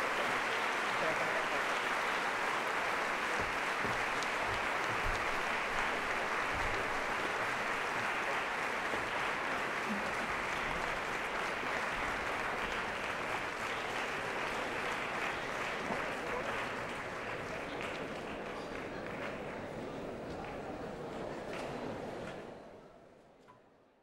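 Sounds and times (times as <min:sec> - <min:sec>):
audience applauding: 0:00.0 - 0:20.6.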